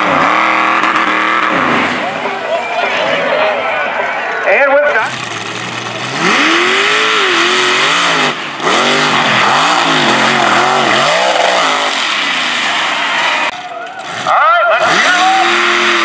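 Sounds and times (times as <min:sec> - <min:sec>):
truck engine at full throttle: 0:00.0 - 0:16.0.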